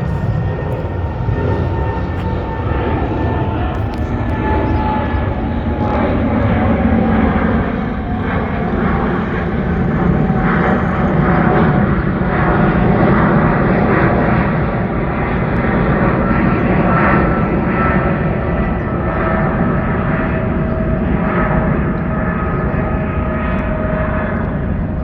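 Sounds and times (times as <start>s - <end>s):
aircraft engine running: 0.0s - 25.0s.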